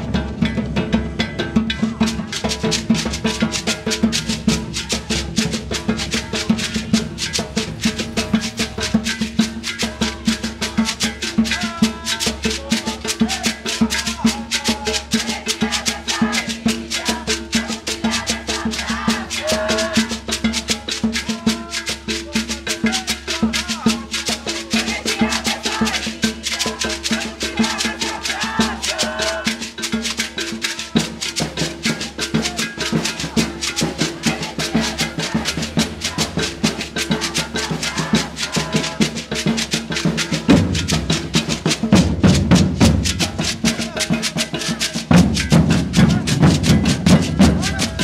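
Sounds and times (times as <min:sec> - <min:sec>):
percussion ensemble playing: 0:00.0 - 0:48.0.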